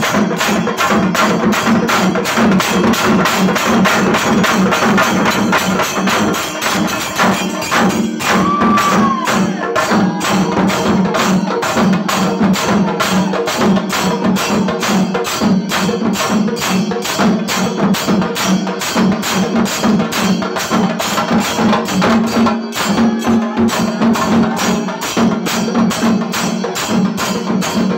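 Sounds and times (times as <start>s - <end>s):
drums beaten with sticks: 0.0s - 27.9s.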